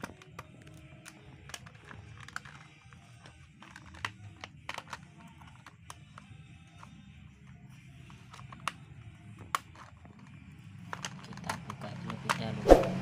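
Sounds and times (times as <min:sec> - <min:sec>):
plastic toy car clicks and knocks: 0:00.0 - 0:12.6.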